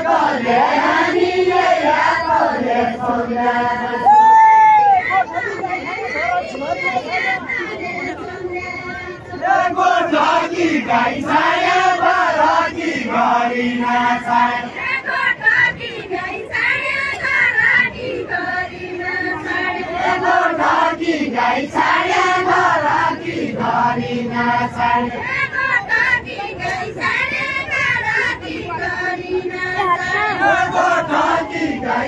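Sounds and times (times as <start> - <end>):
women singing in unison: 0.0 - 32.0.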